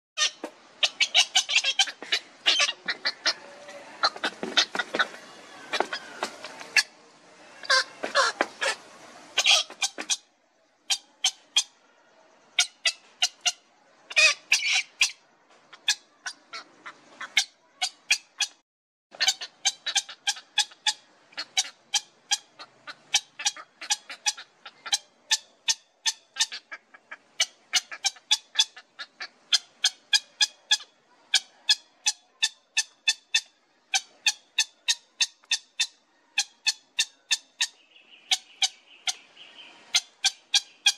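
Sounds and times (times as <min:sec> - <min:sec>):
heron chicks squawking: 0:00.2 - 0:07.0, 0:07.6 - 0:08.8, 0:09.4 - 0:10.3, 0:12.6 - 0:18.6, 0:19.2 - 0:40.9.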